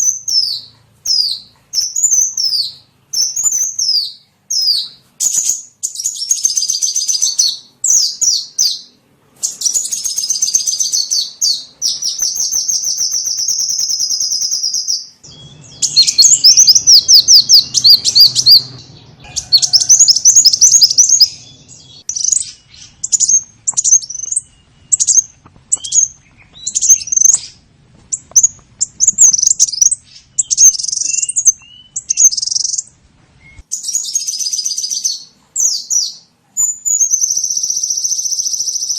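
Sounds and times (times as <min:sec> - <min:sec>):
songbird chirps and buzzy trills: 0:00.0 - 0:38.9.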